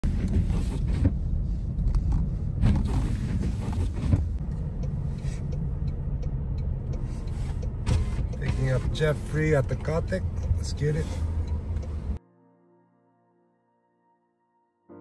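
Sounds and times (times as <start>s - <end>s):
car engine and road rumble: 0.0s - 12.2s.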